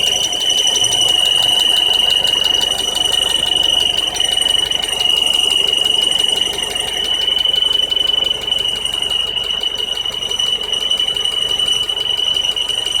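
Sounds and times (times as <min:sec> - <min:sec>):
high-pitched metallic exhaust squeal: 0:00.0 - 0:13.0.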